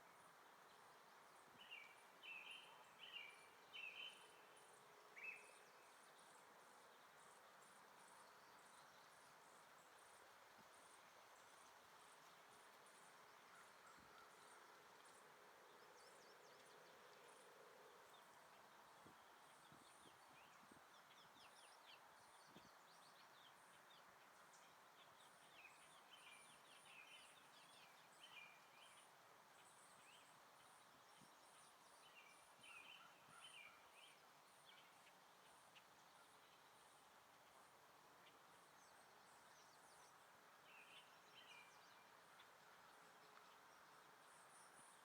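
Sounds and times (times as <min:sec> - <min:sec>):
soft hiss: 0:00.0 - 0:45.0.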